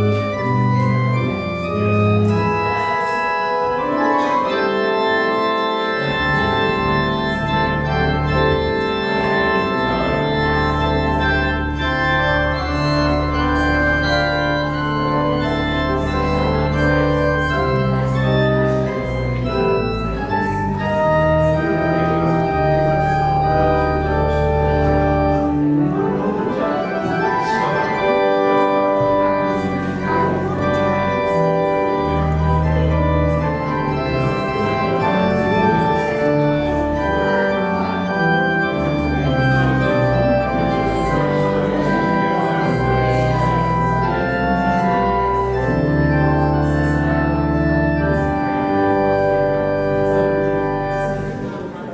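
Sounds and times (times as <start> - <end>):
church organ playing chords: 0.0 - 51.9.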